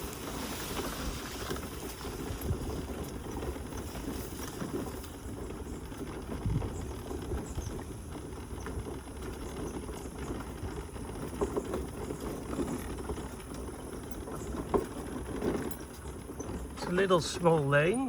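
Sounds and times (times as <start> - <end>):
crackling and small knocks: 0.0 - 17.1
mobility scooter rumbling: 0.0 - 18.0.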